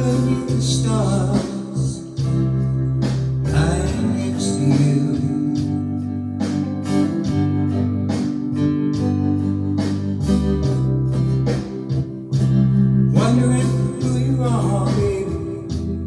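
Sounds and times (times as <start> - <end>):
held bass notes: 0.0 - 16.0
strummed guitar chords: 0.0 - 16.0.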